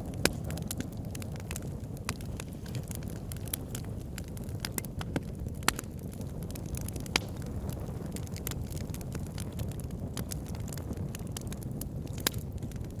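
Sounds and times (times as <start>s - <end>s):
low rumble of flames: 0.0s - 13.0s
sharp pops of fire: 0.0s - 13.0s
wood fire crackling: 0.0s - 13.0s.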